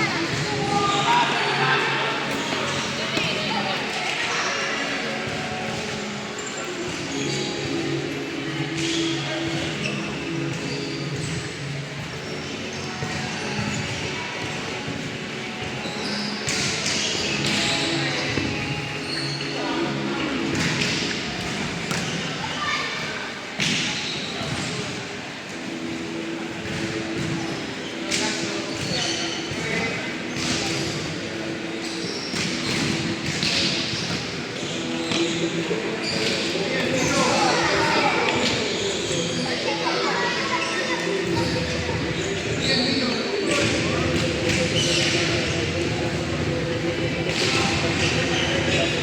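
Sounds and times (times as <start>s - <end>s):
crowd din: 0.0s - 49.0s.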